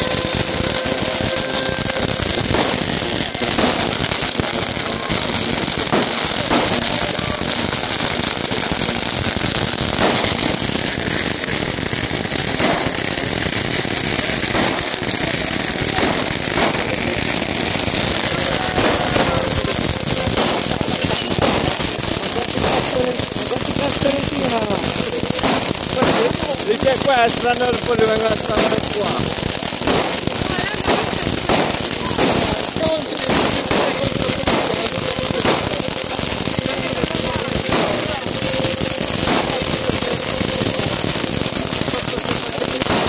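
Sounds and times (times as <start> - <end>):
firecracker bangs: 0.0 - 43.0
firecrackers crackling and popping: 0.0 - 43.0.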